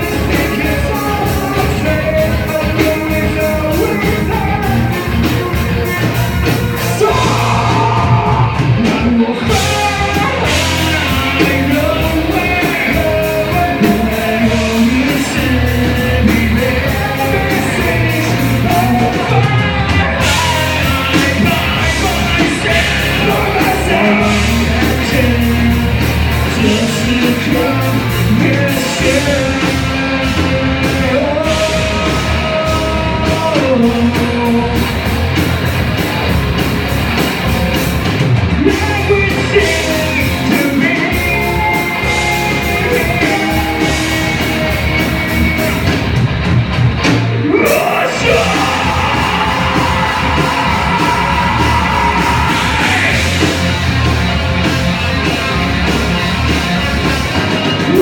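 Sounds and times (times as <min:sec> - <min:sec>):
person singing: 0:00.0 - 0:35.0, 0:38.6 - 0:46.0, 0:47.4 - 0:53.7
drums: 0:00.0 - 0:58.0
guitars: 0:00.0 - 0:58.0.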